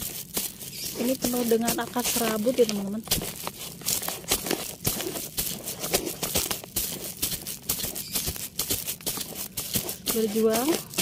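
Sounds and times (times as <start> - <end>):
soil and roots crackling and rustling: 0.0 - 11.0.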